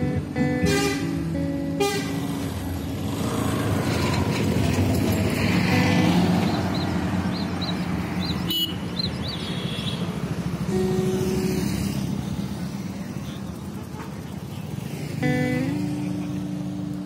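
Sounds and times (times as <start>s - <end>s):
bus driving past: 0.0s - 17.0s
road traffic: 0.0s - 17.0s.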